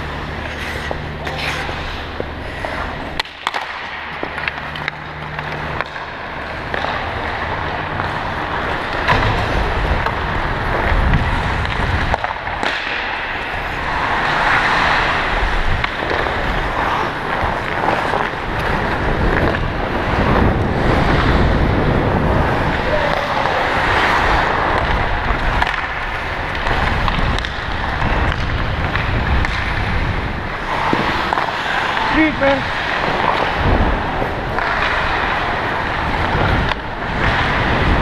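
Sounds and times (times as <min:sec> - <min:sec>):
hockey sticks clacking: 0:00.0 - 0:38.0
low rumble: 0:00.0 - 0:38.0
skates scraping on ice: 0:00.0 - 0:38.0.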